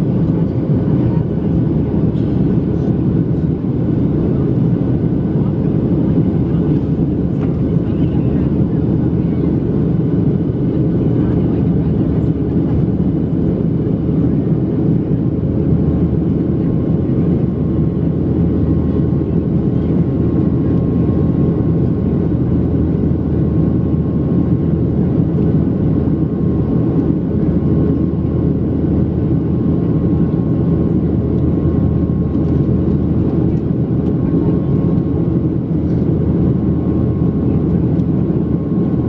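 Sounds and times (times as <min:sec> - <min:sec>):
jet engine drone in cabin: 0:00.0 - 0:39.0.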